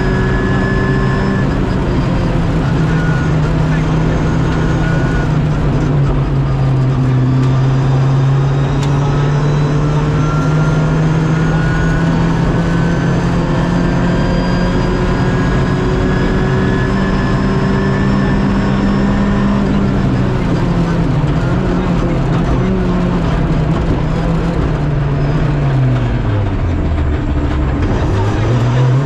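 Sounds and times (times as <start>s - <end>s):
car engine droning: 0.0s - 29.0s
road and tyre noise: 0.0s - 29.0s.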